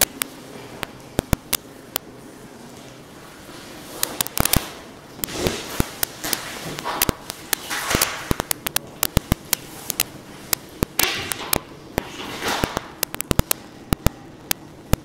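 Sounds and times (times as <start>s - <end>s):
sharp cracks and snaps: 0.0s - 2.1s, 4.0s - 15.0s.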